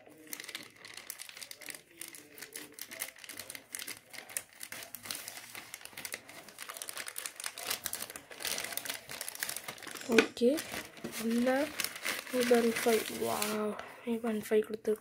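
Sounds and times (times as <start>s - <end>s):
plastic mailer bag crinkling: 0.0s - 13.9s.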